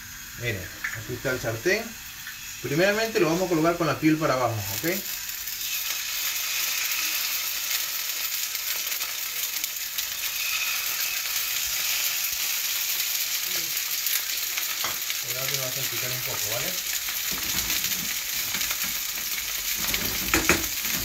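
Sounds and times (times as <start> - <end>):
fish sizzling in a frying pan: 0.0 - 21.0.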